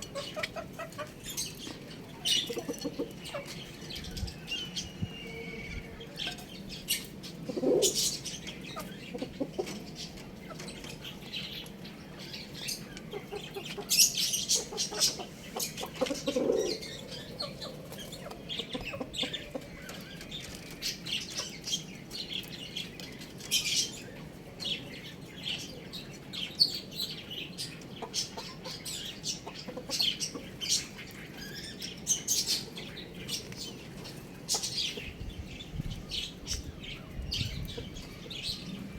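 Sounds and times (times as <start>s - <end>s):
chicken clucking: 0.0s - 38.9s
chickens chirping: 0.0s - 38.9s
chickens fluttering and scuffling: 5.6s - 38.9s.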